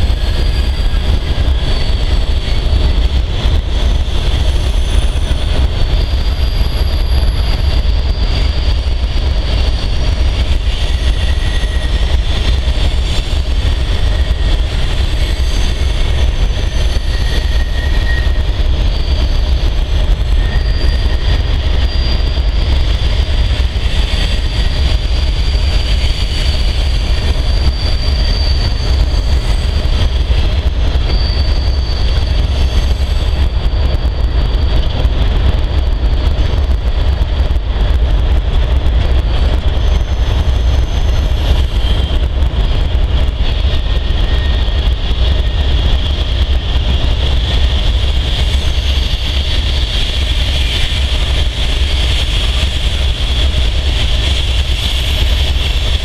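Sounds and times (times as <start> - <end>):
train wheel squeal: 0.0 - 56.0.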